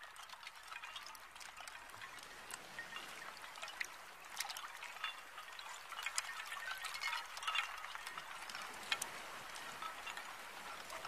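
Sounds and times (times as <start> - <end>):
small plinks and clicks: 0.0 - 11.0
water trickling and dripping: 0.0 - 11.0.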